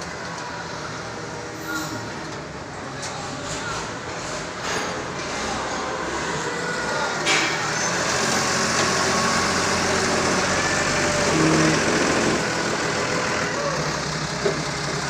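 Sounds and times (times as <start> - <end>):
diesel forklift engine running: 0.0 - 15.0.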